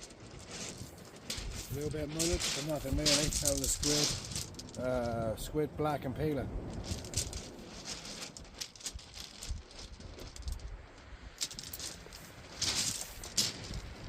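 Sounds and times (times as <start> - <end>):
fishing tackle clicks and rattles: 0.0 - 5.2, 6.7 - 10.8, 11.4 - 14.0
rustling scrape: 0.0 - 5.2, 6.7 - 14.0.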